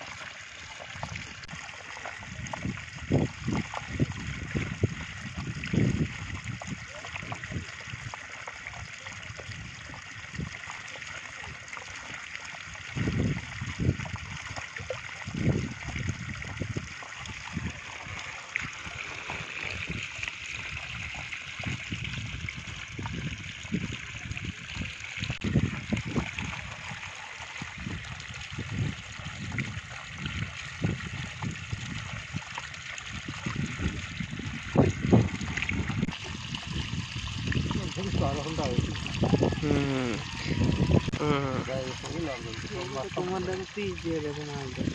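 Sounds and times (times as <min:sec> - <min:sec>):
water pouring and splashing: 0:00.0 - 0:44.9.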